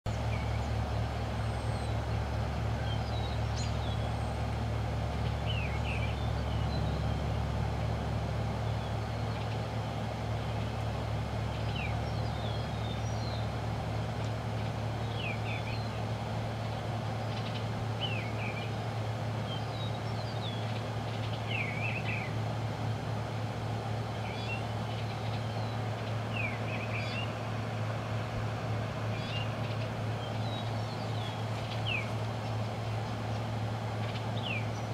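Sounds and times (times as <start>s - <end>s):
road traffic rumble: 0.0s - 34.9s
songbirds chirping: 0.1s - 34.9s.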